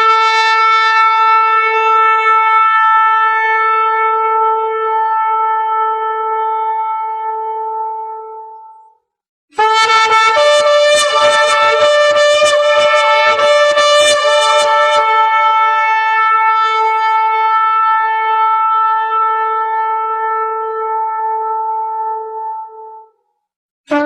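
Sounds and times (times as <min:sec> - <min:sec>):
shofar blasts: 0:00.0 - 0:08.8, 0:09.6 - 0:23.1.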